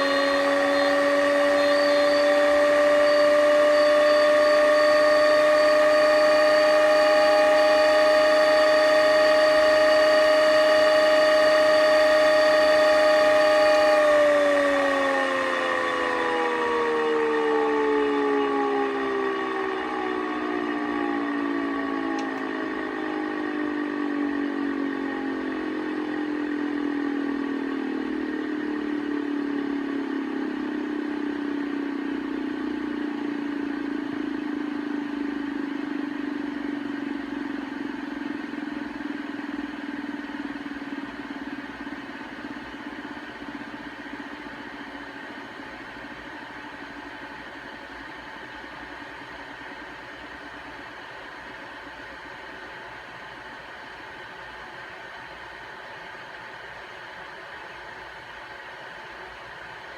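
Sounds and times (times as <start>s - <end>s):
pump rotor whine: 0.0s - 59.9s.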